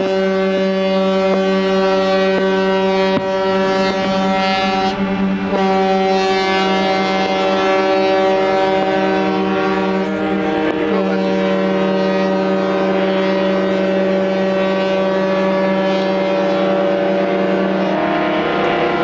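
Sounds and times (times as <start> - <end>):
ship's horn blast: 0.0 - 19.0
wavering horn tone: 0.0 - 19.0.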